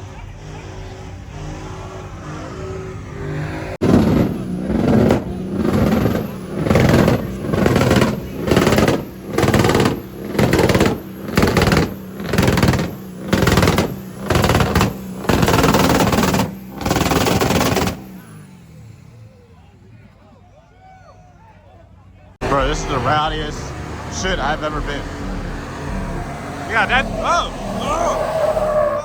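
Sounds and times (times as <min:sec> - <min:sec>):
truck engine revving: 0:00.0 - 0:20.2, 0:22.4 - 0:29.0.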